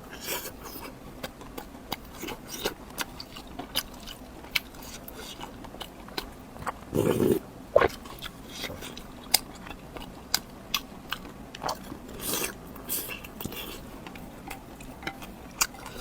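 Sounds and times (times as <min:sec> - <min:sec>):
crunchy biting and chewing: 0:00.1 - 0:16.0.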